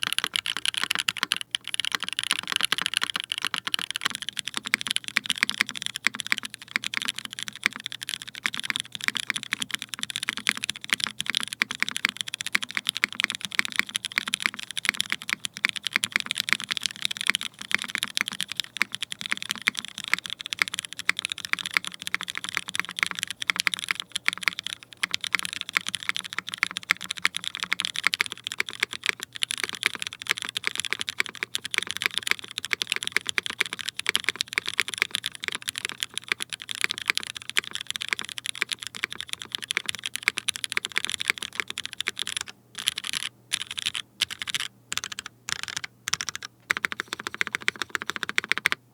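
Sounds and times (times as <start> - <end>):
fast typing on mechanical keyboard: 0.0 - 48.8.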